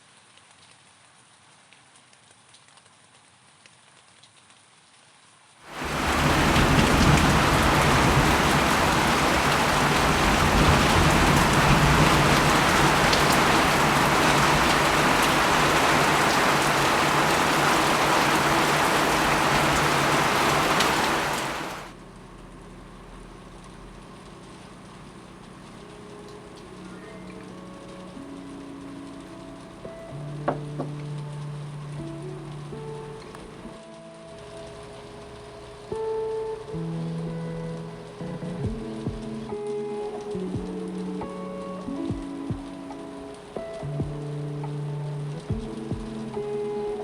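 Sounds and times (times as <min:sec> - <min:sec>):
heavy rain pouring: 0:05.7 - 0:47.0.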